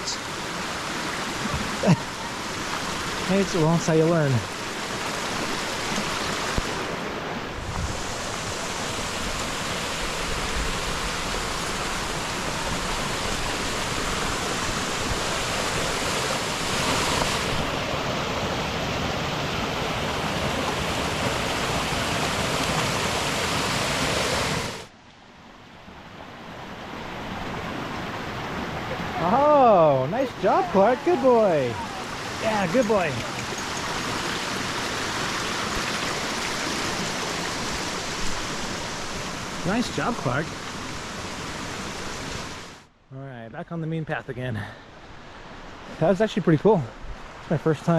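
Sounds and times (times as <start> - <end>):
waterfall rushing: 0.0 - 24.9, 27.2 - 42.8.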